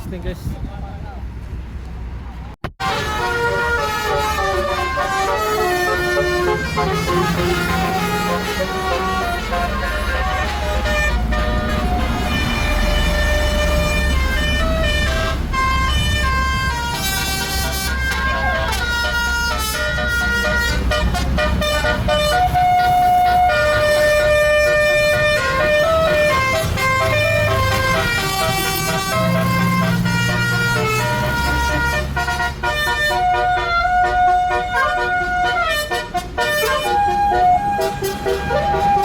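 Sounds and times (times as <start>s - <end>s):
bus engines rumbling: 0.0s - 39.0s
multi-tone bus horns playing tunes: 2.7s - 39.0s.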